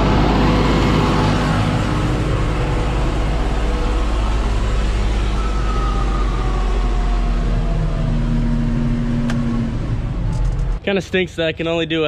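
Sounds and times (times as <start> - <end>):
faint whine: 0.0 - 11.4
tractor engine running: 0.0 - 12.0.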